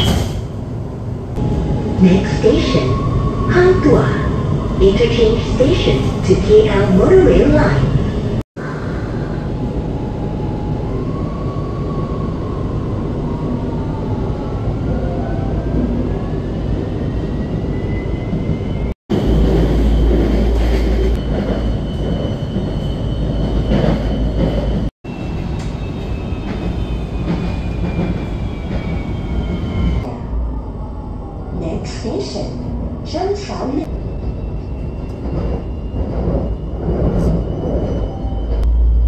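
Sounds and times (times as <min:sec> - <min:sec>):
passing train rumble: 0:00.0 - 0:39.0.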